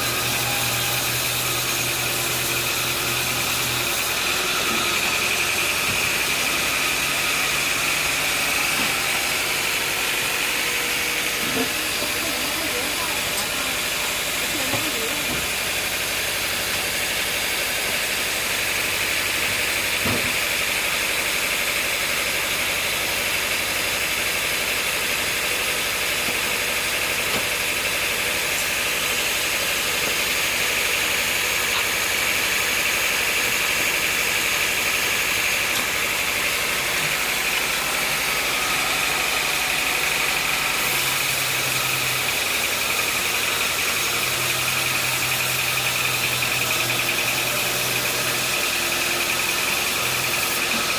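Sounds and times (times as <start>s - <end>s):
sawmill machinery whining: 0.0s - 50.9s.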